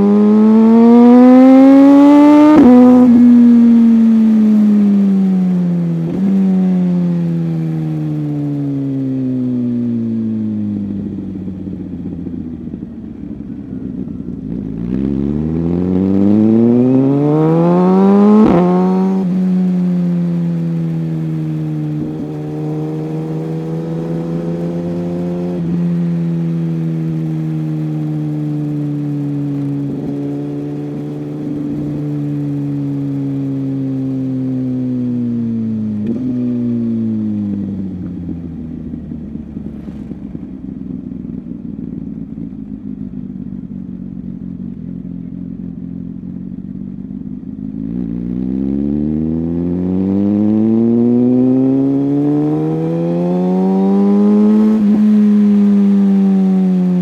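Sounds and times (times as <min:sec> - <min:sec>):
superbike engine revving: 0:00.0 - 0:09.8, 0:10.8 - 0:41.4, 0:47.2 - 0:57.0.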